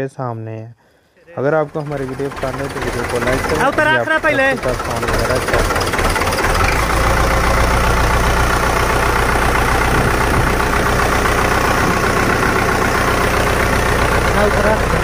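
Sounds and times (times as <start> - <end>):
tractor diesel engine idling: 1.3 - 15.0.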